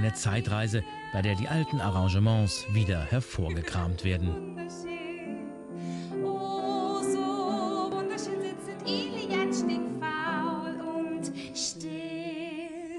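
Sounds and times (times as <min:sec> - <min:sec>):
woman singing with vibrato: 0:00.8 - 0:12.9.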